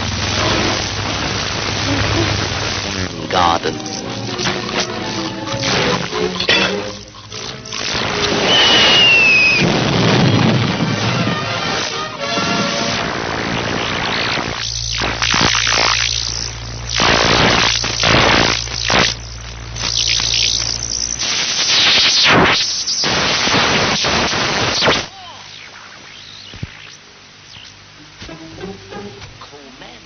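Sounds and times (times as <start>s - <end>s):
bursts of hissing noise: 0.0s - 28.1s
steady low hum: 0.0s - 30.0s.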